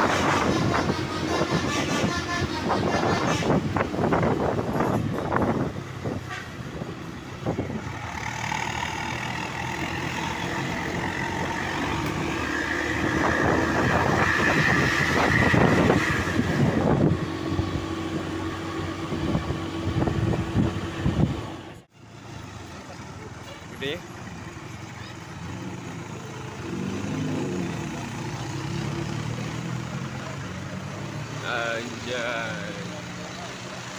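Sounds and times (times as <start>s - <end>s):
bus engine rumble passing: 0.0s - 33.9s.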